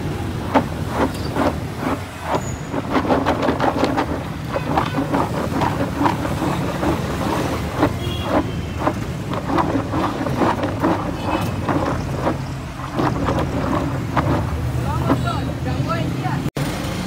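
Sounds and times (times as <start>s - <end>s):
potato sticks clattering in a plastic tub: 0.5s - 15.3s.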